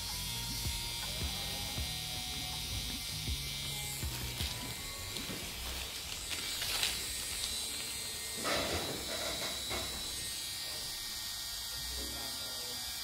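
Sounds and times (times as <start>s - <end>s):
small drill whining: 0.0s - 13.0s.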